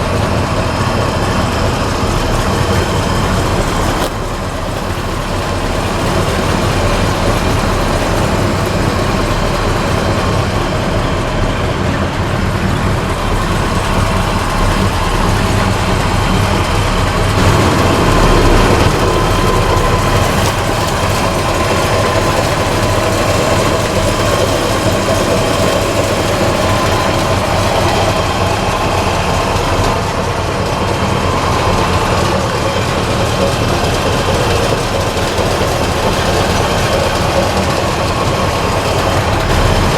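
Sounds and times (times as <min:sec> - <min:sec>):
pickup truck engine running: 0:00.0 - 0:39.9.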